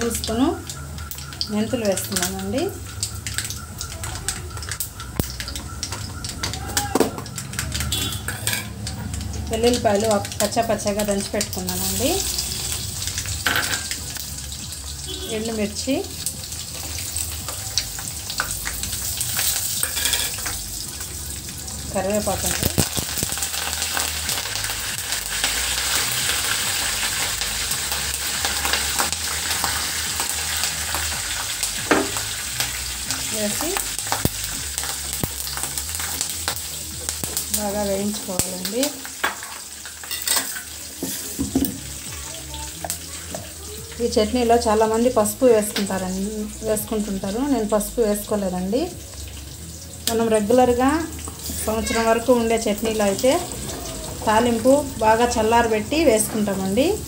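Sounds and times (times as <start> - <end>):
seeds popping in hot oil: 0.0 - 44.1, 45.0 - 57.0.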